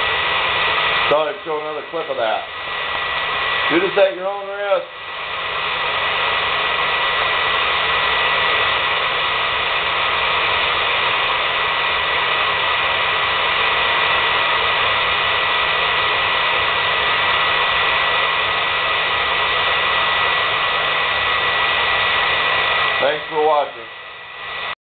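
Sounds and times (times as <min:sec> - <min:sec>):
hair dryer whirring: 0:00.0 - 0:24.8.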